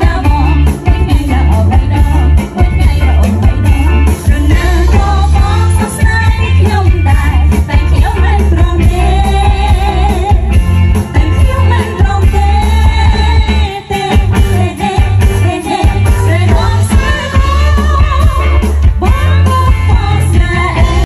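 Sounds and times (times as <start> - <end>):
live band with heavy bass beat: 0.0 - 21.0
women singing into microphones: 0.0 - 21.0.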